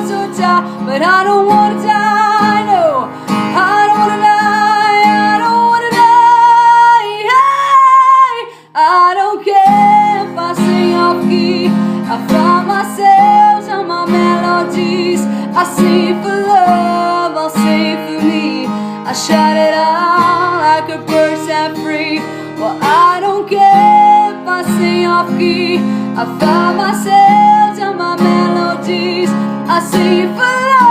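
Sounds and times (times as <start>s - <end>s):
strummed acoustic guitar: 0.0s - 30.9s
woman singing with vibrato: 0.0s - 30.9s.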